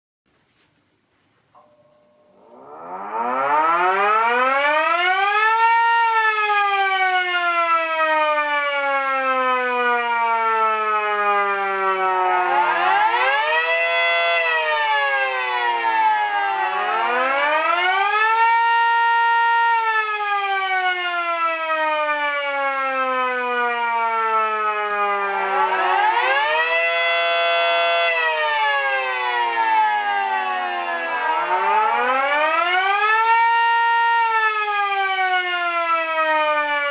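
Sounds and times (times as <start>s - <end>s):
model sirens winding up and down: 2.4s - 36.9s.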